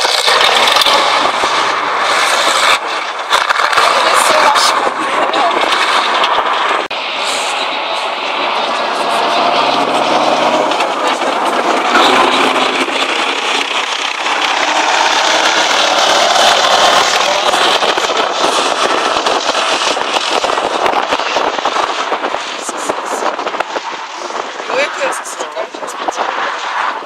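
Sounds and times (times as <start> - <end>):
tank diesel engine: 0.0 - 27.0.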